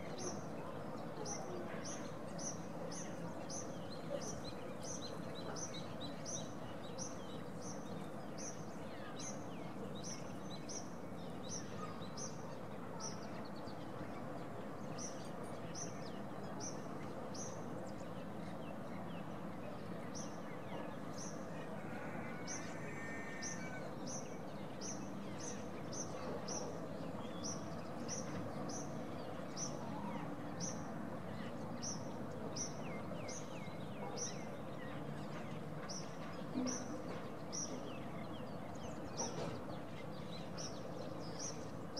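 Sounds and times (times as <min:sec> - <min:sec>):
steady background noise: 0:00.0 - 0:41.9.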